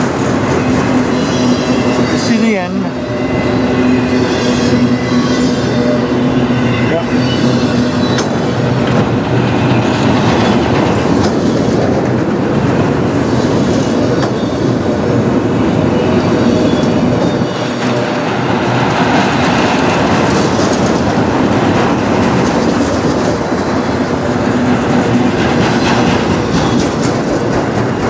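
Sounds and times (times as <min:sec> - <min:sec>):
train wheels rolling over rails: 0:00.0 - 0:28.0.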